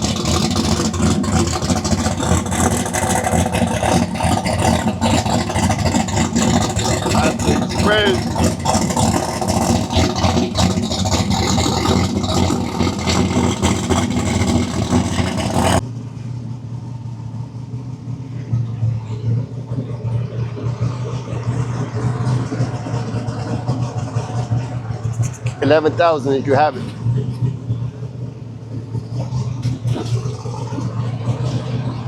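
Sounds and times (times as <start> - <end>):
engine idling: 0.0 - 32.0
race car engine crackling: 0.0 - 32.0.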